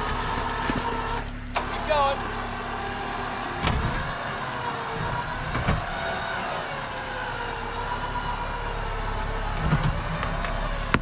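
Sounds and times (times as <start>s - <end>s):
car engine idling: 0.0s - 11.0s
electric winch whining: 0.0s - 11.0s.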